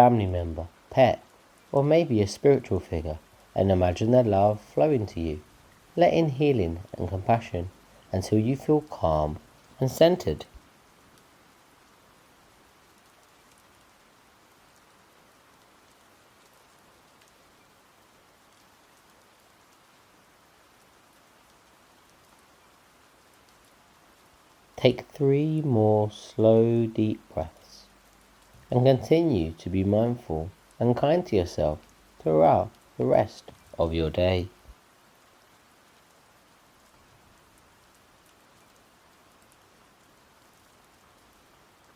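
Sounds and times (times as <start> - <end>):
faint rain hiss: 0.0 - 41.9
light raindrop ticks: 0.0 - 41.9.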